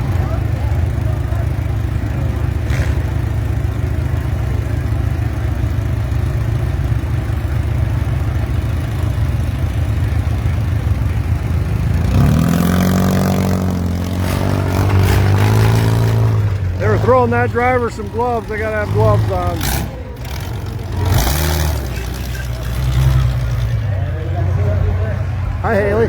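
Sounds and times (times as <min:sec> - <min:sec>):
car engines rumbling and revving: 0:00.0 - 0:26.0.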